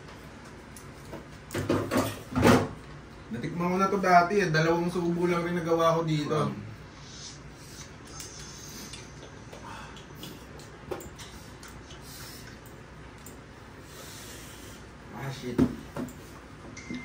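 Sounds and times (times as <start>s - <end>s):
low room noise: 0.0s - 17.0s.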